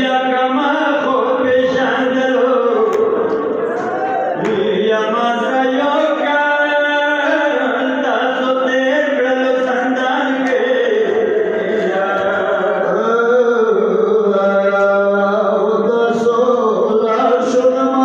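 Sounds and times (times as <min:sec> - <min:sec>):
man chanting a lament: 0:00.0 - 0:18.0.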